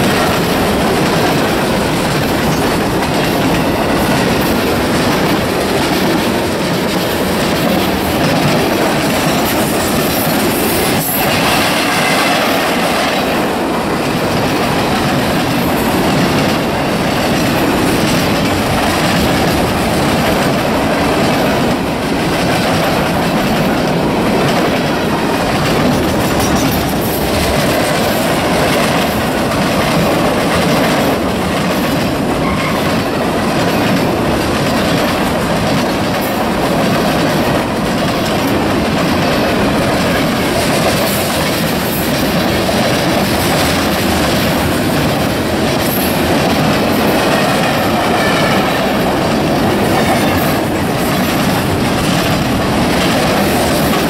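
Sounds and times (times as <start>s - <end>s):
freight train rolling past: 0.0s - 54.0s
steel wheels clattering on rails: 0.0s - 54.0s.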